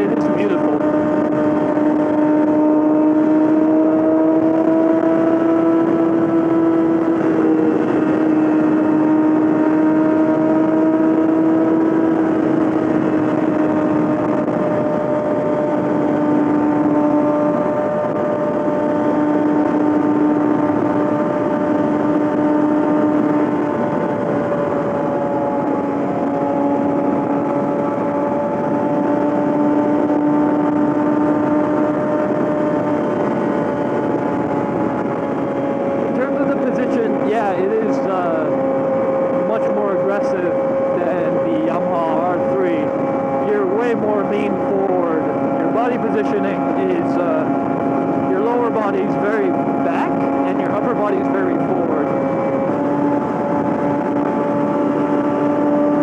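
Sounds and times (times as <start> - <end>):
motorcycle engine revving high: 0.0 - 56.0.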